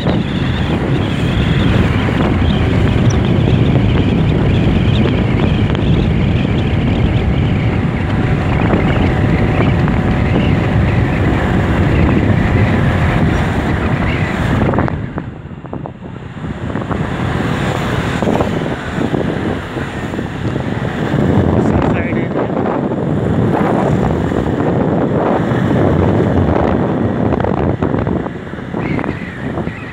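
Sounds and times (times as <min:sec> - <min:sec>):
scooter and road rumble: 0:00.0 - 0:29.9
wind buffeting microphone: 0:00.0 - 0:29.9.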